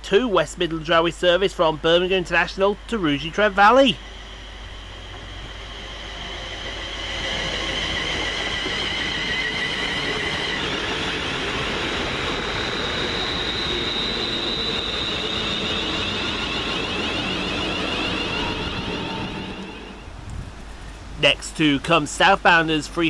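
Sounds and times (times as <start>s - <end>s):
electric train high whine: 0.0s - 21.1s.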